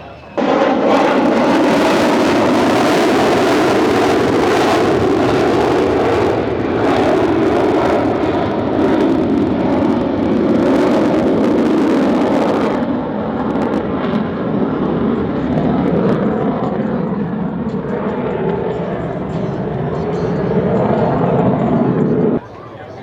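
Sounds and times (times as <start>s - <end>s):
jet engines roaring overhead: 0.0s - 23.0s.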